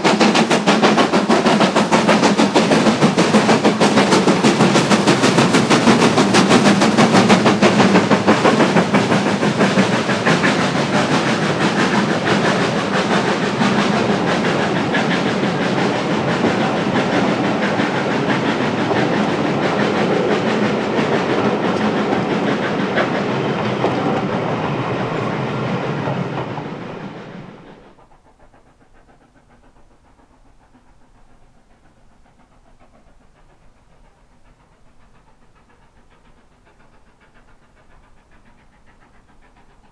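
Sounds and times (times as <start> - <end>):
steam train running past: 0.0 - 39.9.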